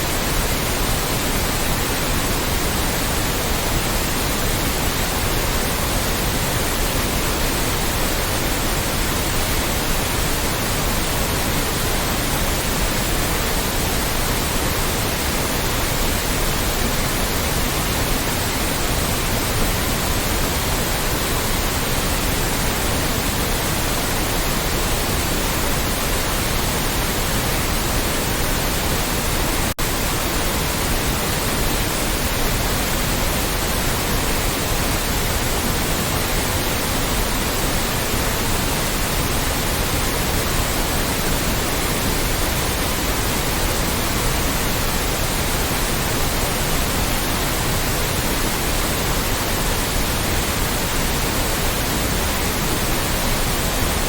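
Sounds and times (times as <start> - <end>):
loud white noise hiss: 0.0 - 54.0.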